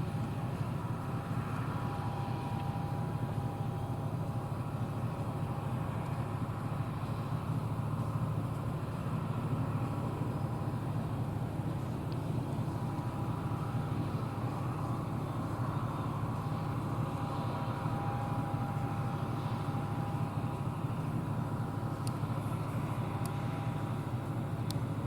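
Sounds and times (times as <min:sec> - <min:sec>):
combine harvester drone: 0:00.0 - 0:25.0
faint steady whine: 0:00.0 - 0:25.0.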